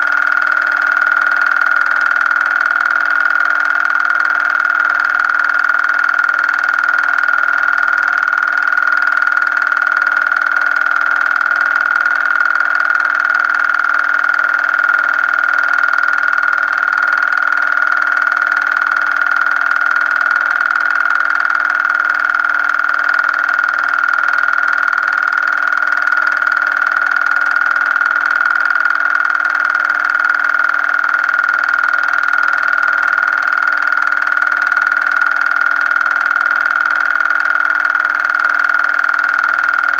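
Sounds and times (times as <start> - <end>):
high-pitched whine: 0.0 - 39.9.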